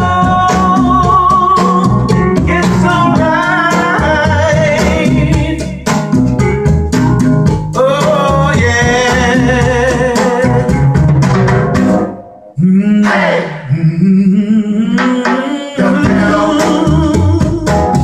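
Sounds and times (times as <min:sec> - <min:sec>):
person singing: 0:00.0 - 0:06.1, 0:07.7 - 0:10.9, 0:12.6 - 0:18.0
drum beat: 0:00.0 - 0:12.2, 0:15.0 - 0:18.0.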